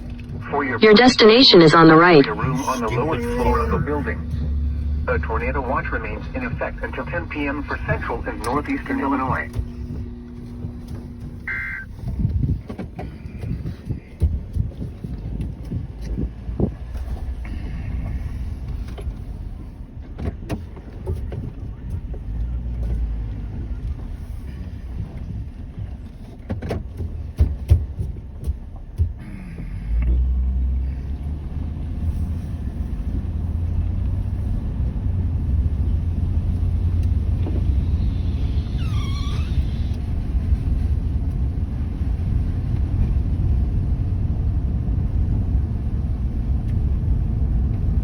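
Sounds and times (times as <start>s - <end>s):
car rumbling: 0.0s - 48.0s.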